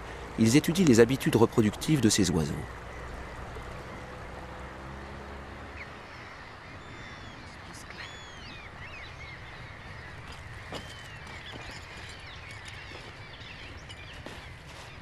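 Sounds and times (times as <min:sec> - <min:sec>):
gulls calling: 0:00.0 - 0:15.0
outdoor background noise: 0:00.0 - 0:15.0.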